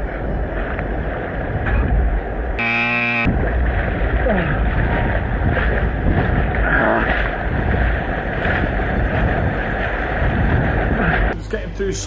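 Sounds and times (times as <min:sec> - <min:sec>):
wind buffeting microphone: 0:00.0 - 0:02.6, 0:03.2 - 0:11.4
surf breaking: 0:00.1 - 0:11.4.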